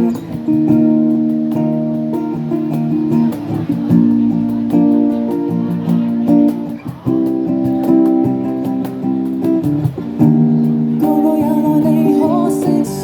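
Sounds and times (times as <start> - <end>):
strummed guitar chords: 0.0 - 13.0.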